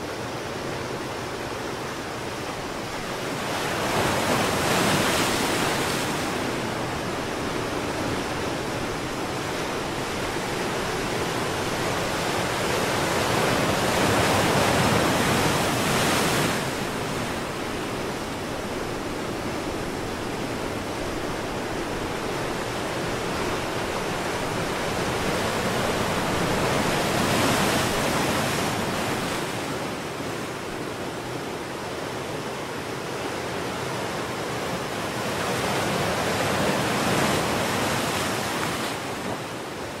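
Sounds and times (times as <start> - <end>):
sea surf rushing: 0.0 - 40.0.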